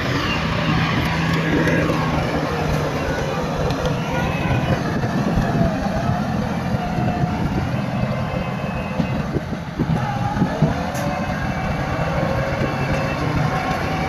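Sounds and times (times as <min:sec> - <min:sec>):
bulldozer diesel engine drone: 0:00.0 - 0:14.0
tracks squealing: 0:00.0 - 0:14.0.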